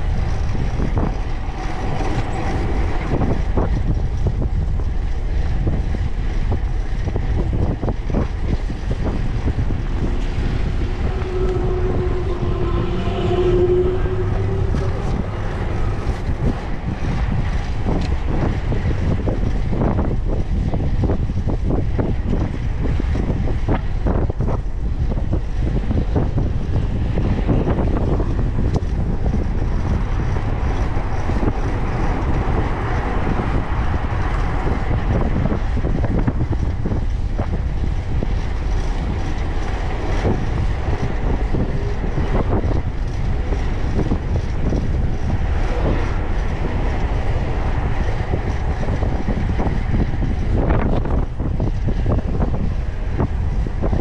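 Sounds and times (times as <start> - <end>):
passing motor traffic: 0.0 - 54.0
tyre road noise: 0.0 - 54.0
wind buffeting microphone: 0.0 - 54.0.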